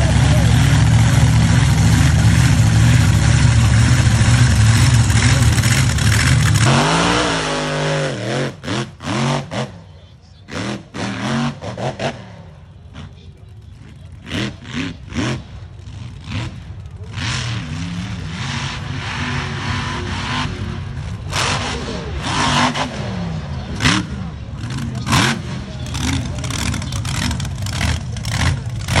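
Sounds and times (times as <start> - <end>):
buggy engine revving hard: 0.0 - 13.2, 13.9 - 29.0.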